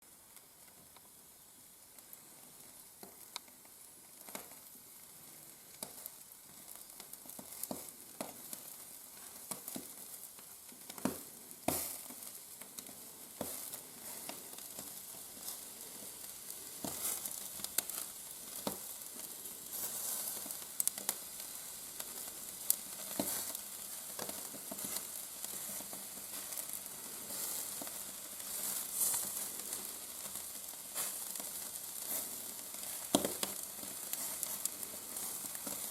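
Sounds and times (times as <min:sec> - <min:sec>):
fire crackling and popping: 0:00.1 - 0:35.9
meat sizzling over fire: 0:00.1 - 0:35.9.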